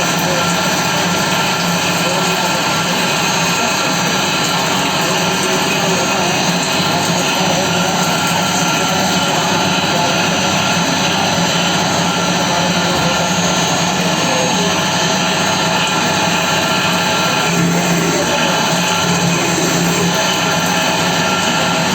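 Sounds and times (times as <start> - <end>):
cnc machine whining: 0.0 - 21.9.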